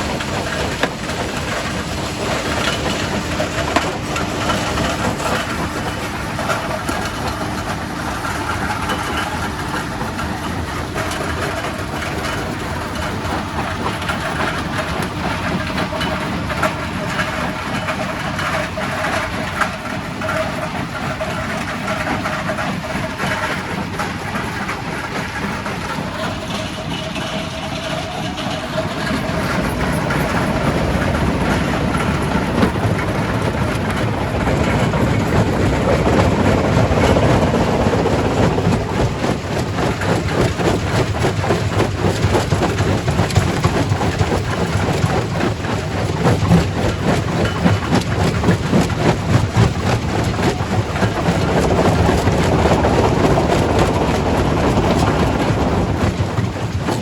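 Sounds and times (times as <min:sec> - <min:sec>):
heavy machine drone: 0:00.0 - 0:46.8, 0:50.6 - 0:57.0.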